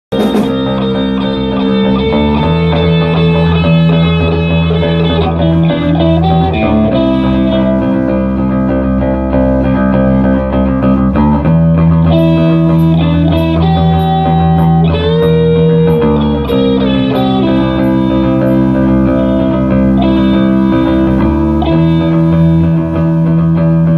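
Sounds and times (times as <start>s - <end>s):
electric guitar sliding notes: 0.1s - 23.9s.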